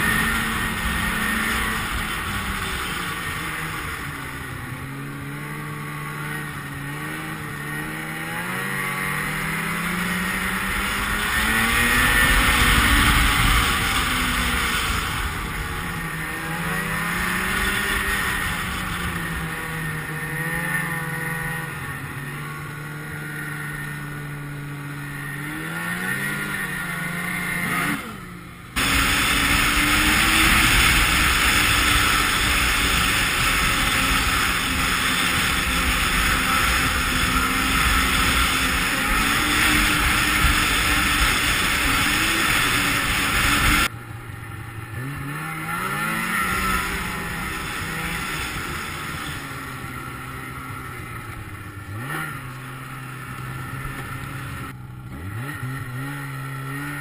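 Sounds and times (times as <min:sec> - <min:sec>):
rushing wind and track noise: 0:00.0 - 0:57.0
snowmobile engine revving: 0:00.0 - 0:57.0.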